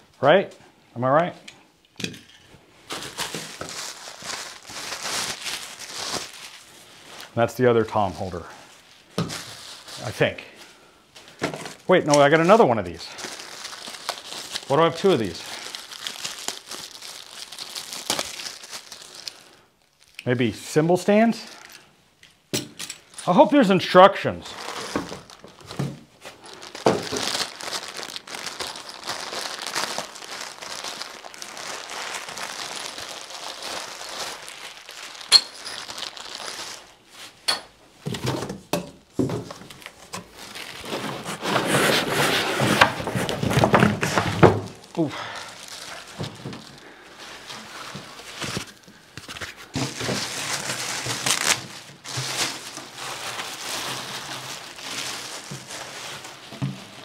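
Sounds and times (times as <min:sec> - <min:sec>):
plastic packaging crinkling: 0:02.3 - 0:10.4, 0:11.2 - 0:20.3, 0:24.3 - 0:38.5, 0:39.1 - 0:57.0.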